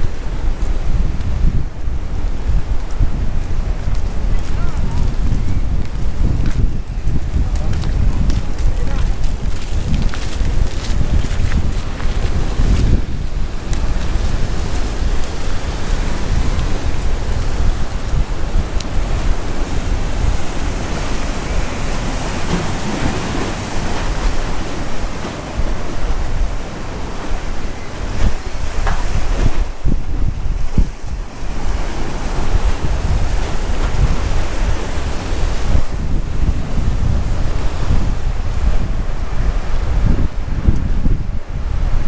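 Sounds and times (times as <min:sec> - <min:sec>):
surf washing against concrete: 0:00.0 - 0:42.0
wind buffeting microphone: 0:00.0 - 0:42.0.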